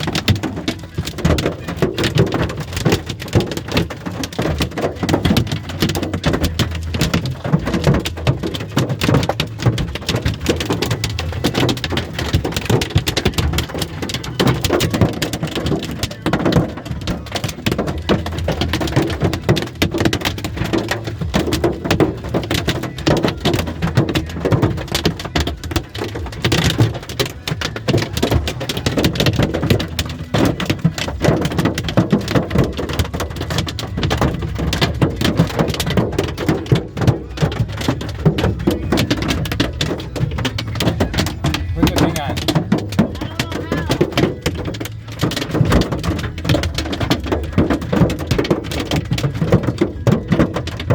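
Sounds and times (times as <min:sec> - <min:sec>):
hailstones pelting vehicle roof: 0:00.0 - 0:50.9.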